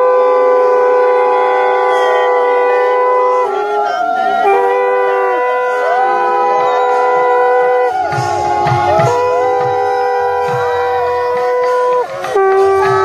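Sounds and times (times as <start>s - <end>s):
conch shells blown in long notes: 0.0s - 13.0s.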